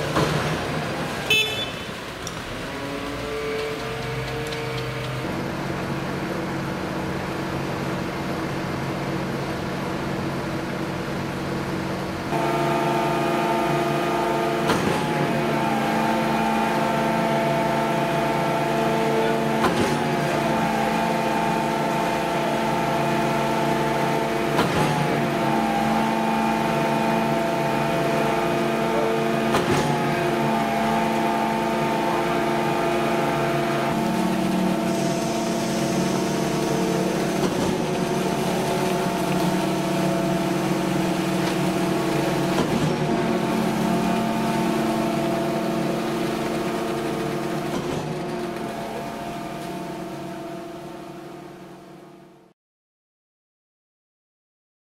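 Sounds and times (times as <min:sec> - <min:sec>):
engine drone: 0:00.0 - 0:52.5.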